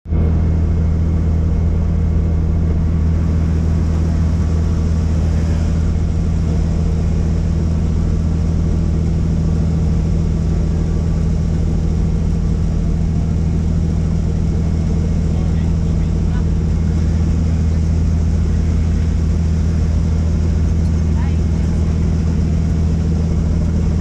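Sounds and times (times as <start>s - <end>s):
helicopter rotor and engine drone: 0.1s - 24.0s.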